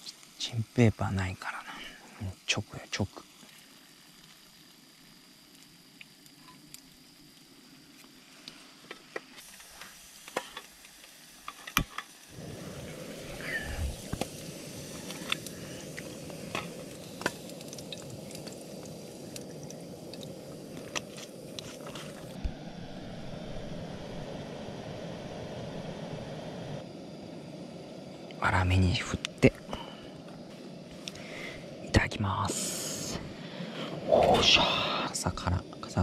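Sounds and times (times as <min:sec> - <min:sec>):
gas stove burner hissing: 0:00.0 - 0:36.0.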